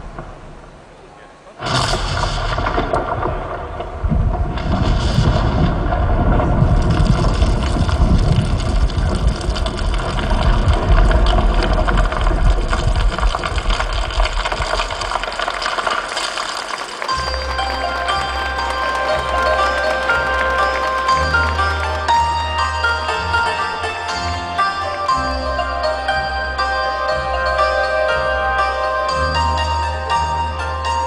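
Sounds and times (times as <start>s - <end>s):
rumbling crumbling masonry: 1.6s - 28.0s.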